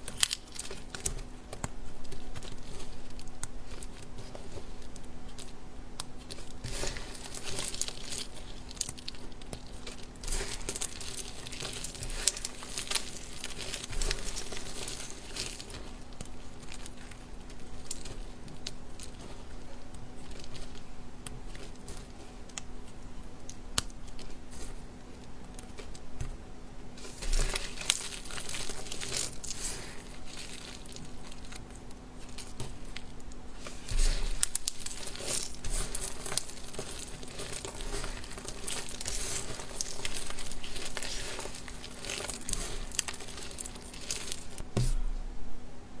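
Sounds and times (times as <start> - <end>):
dry soap crunching and crackling: 0.0 - 45.4
faint steady hum: 0.0 - 46.0.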